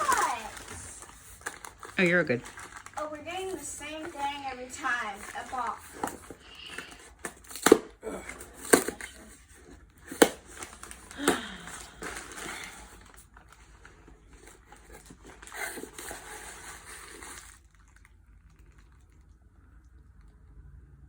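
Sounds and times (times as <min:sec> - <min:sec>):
gift wrap rustling and crinkling: 0:00.0 - 0:18.2.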